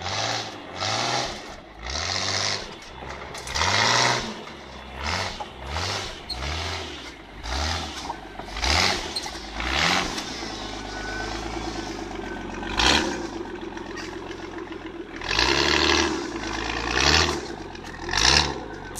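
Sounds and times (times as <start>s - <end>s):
engine revving: 0.0s - 18.9s
tyres churning in mud: 0.0s - 18.9s.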